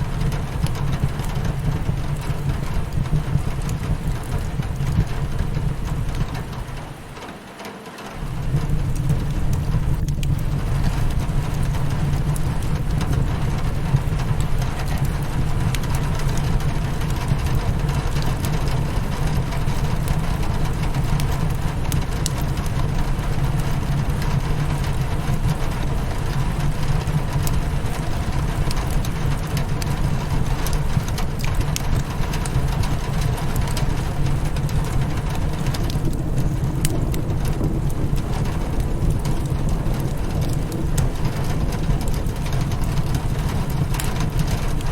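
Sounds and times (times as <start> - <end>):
rain against a window: 0.0 - 44.9
fireplace crackling: 8.1 - 44.9.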